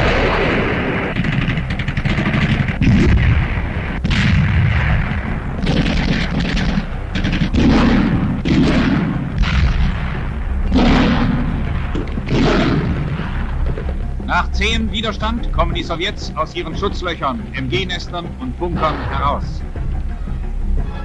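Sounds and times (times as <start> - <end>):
gunshots: 0.0 - 21.0
low rumble: 0.0 - 21.0
shell bursts: 0.0 - 21.0.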